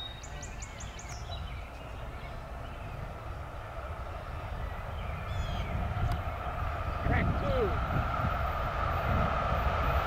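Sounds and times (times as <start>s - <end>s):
freight train rumble: 0.0s - 10.0s.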